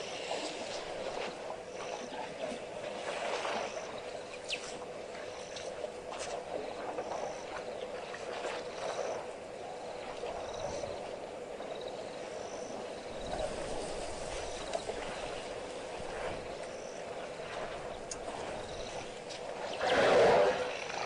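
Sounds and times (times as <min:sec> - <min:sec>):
constant low hiss: 0:00.0 - 0:21.0.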